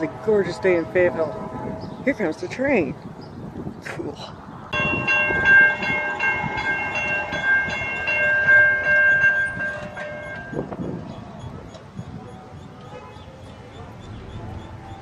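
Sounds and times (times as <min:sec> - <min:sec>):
passing train rumble: 0:00.0 - 0:03.8, 0:04.4 - 0:15.0.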